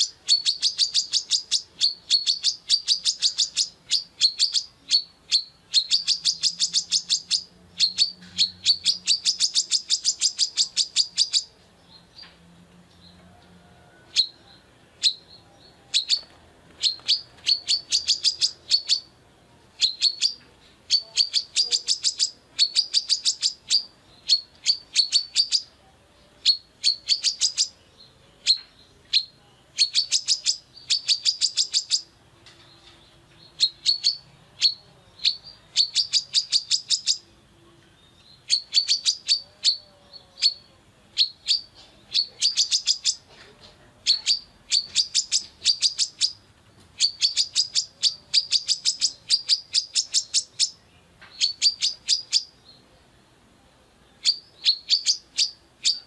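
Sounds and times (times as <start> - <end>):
sunbird chirping: 0.0 - 56.0.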